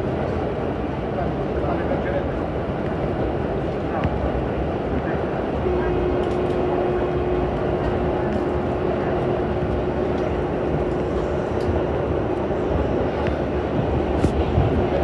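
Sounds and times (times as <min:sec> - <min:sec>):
train wheels rumbling on rails: 0:00.0 - 0:15.0
train whine: 0:00.0 - 0:15.0.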